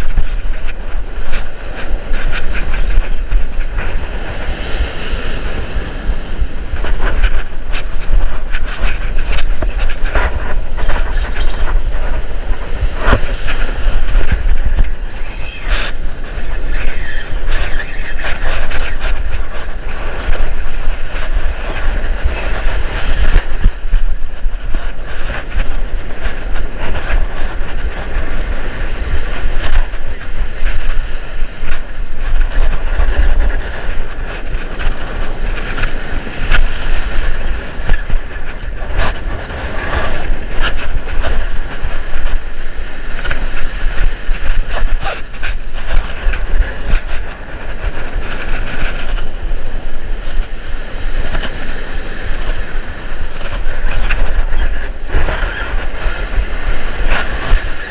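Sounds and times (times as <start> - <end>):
surf breaking: 0.0 - 57.9
wind buffeting microphone: 0.0 - 57.9.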